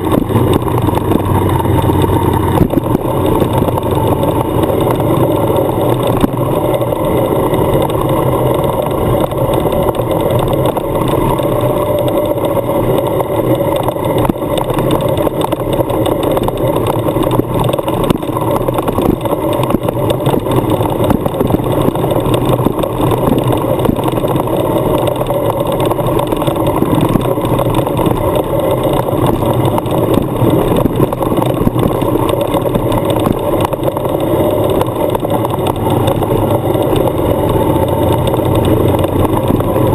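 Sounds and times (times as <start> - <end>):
motorcycle engine: 0.0 - 39.9
tyres on gravel road: 0.0 - 39.9.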